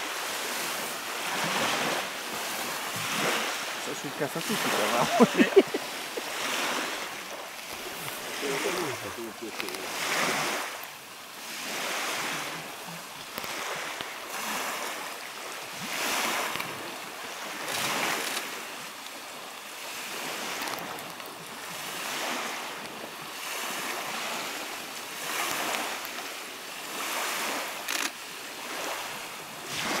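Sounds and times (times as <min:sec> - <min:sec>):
creek water rushing and splashing: 0:00.0 - 0:30.0.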